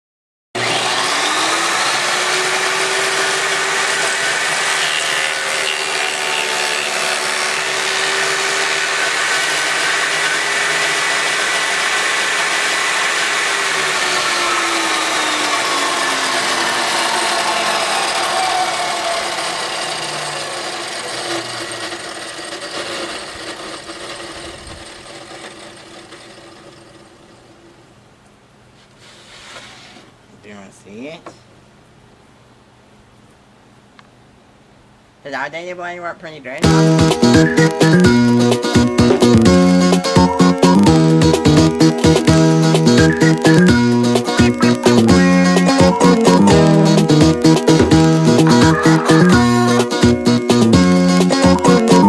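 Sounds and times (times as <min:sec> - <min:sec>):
table saw whining: 0:00.6 - 0:27.8, 0:36.6 - 0:52.0.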